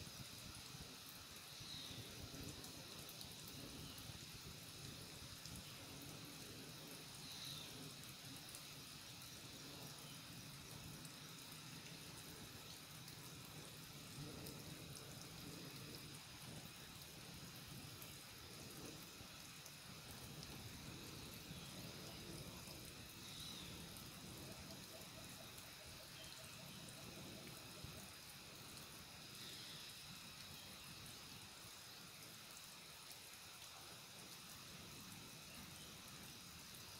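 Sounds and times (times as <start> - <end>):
low hiss: 0.0 - 36.9.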